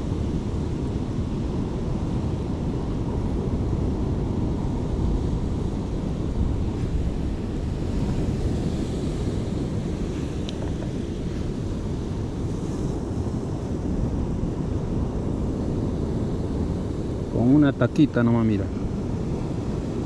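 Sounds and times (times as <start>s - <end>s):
sea surf washing: 0.0s - 20.0s
wind rumble on microphone: 0.0s - 20.0s.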